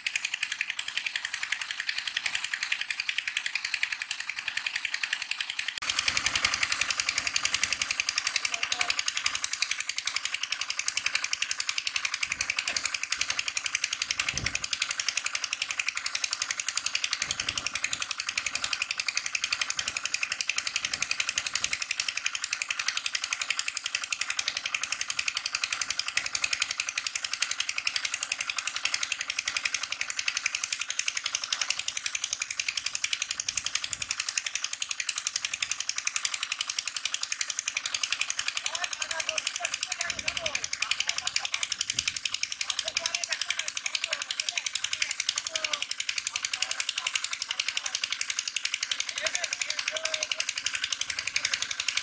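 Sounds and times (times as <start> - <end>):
water pump engine clattering: 0.0 - 52.0.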